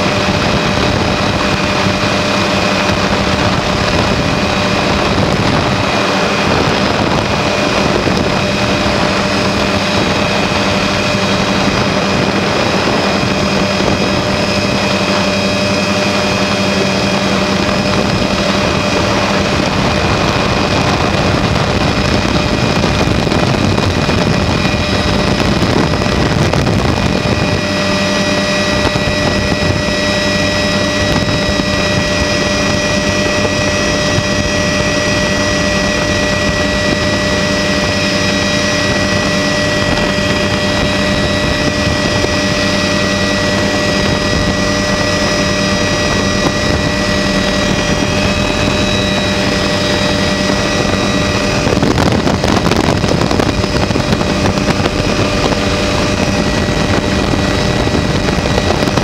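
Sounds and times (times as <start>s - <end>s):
helicopter rotor and engine: 0.0s - 59.0s
wind on microphone: 0.0s - 59.0s.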